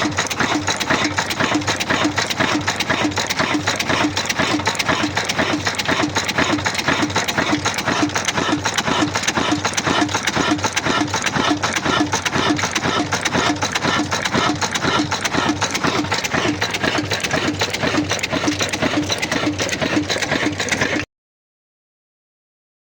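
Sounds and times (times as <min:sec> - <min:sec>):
diesel engine running rhythmically: 0:00.0 - 0:21.1.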